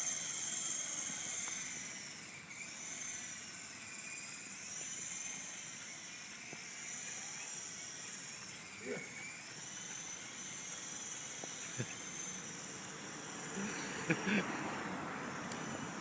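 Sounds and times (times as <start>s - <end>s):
helicopter whine in flight: 0.0s - 16.0s.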